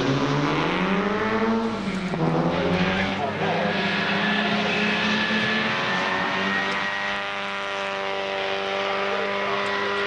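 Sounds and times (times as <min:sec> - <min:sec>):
rally car engine running: 0:00.0 - 0:10.0.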